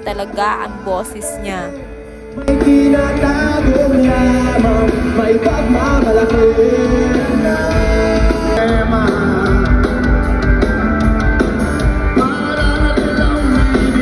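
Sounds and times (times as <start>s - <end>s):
song with singing and guitar: 0.0s - 14.0s.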